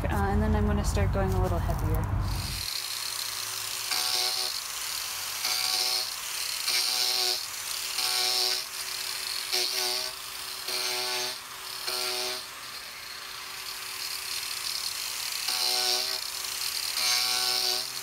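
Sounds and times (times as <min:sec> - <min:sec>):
angle grinder running: 0:02.2 - 0:18.0
grinder disc buzzing on wood: 0:02.2 - 0:18.0.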